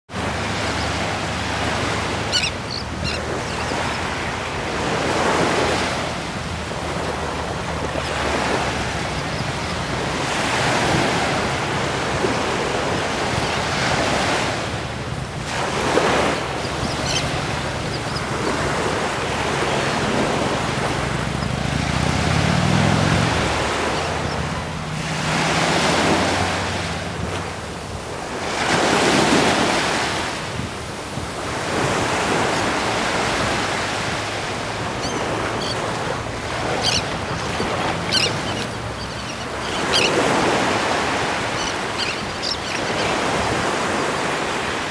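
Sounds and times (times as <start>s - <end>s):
small surf washing on sand: 0.1s - 44.9s.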